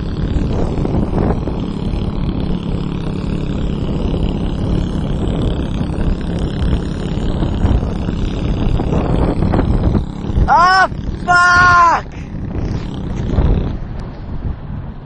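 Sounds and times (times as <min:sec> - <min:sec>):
motorbike engine running: 0:00.0 - 0:15.0.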